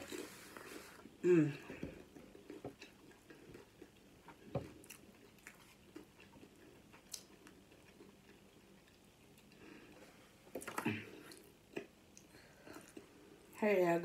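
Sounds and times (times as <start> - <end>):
faint chewing with mouth clicks: 0.0 - 13.6.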